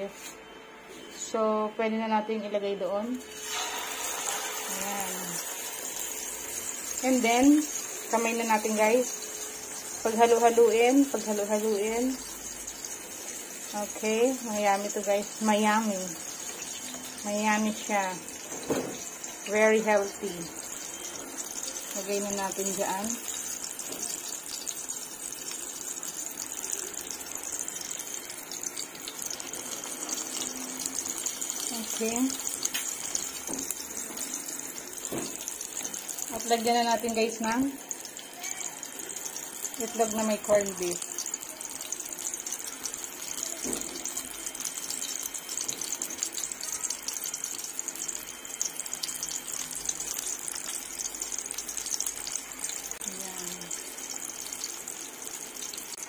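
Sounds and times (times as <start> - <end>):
oil sizzling in a pan: 3.0 - 56.0.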